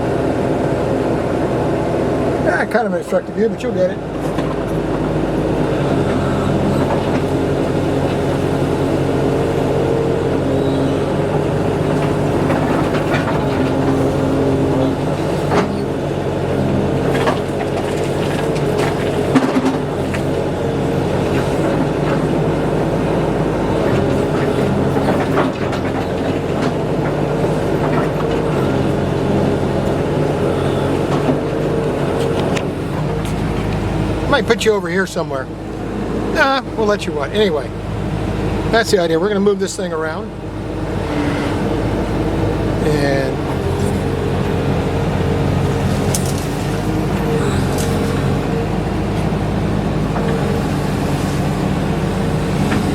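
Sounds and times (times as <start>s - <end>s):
earth-moving machine engine running: 0.0s - 52.9s.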